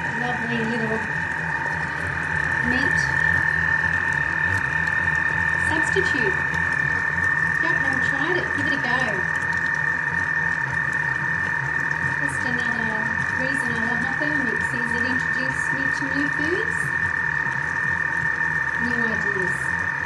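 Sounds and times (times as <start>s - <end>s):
food processor motor whining: 0.0s - 20.0s.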